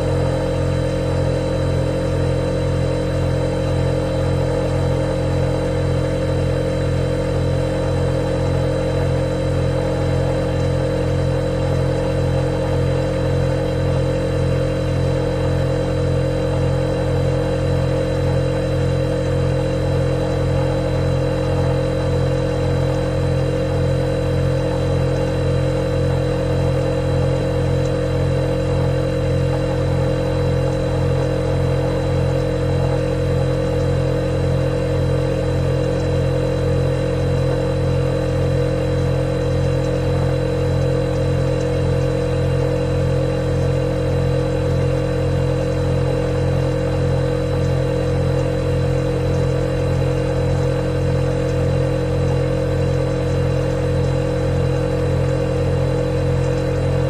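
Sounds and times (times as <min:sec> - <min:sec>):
refrigerator compressor humming: 0:00.0 - 0:57.0.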